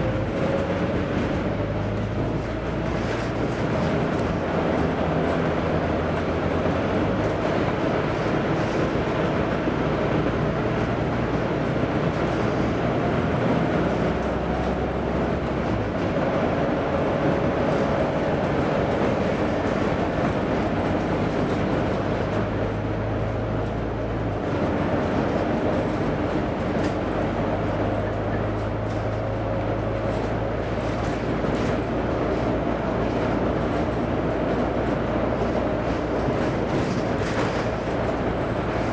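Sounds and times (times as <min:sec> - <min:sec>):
bus diesel engine running: 0:00.0 - 0:38.9
road rumble: 0:00.0 - 0:38.9.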